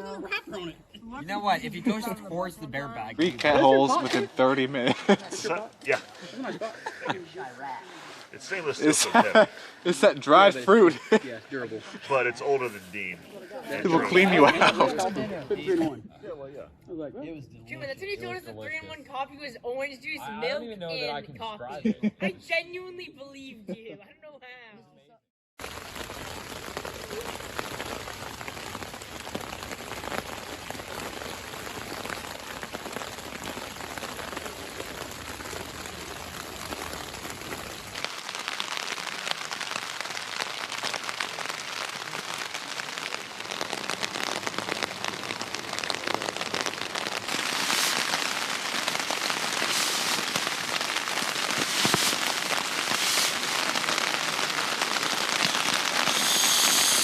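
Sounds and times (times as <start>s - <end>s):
rain pattering: 0.0s - 16.0s, 25.6s - 57.0s.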